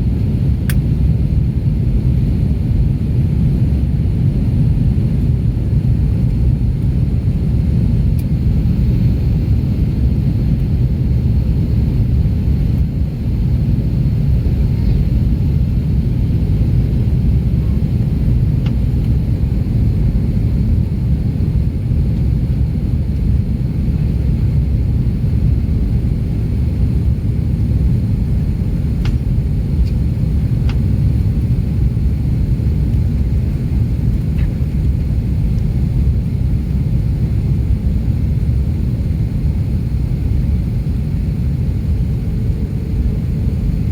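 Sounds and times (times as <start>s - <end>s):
airliner cabin low rumble: 0.0s - 43.9s.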